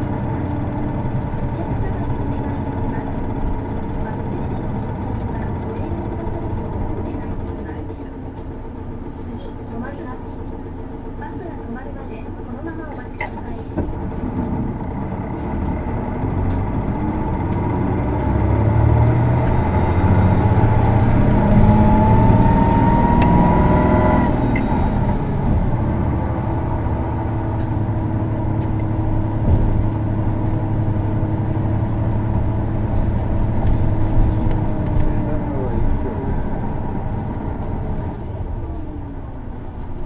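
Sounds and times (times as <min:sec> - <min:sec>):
bus diesel engine whining: 0:00.0 - 0:40.0.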